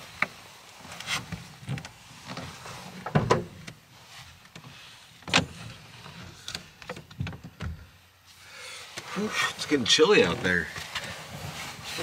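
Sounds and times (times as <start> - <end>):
clothing rustling: 0.0 - 6.8, 7.9 - 12.0.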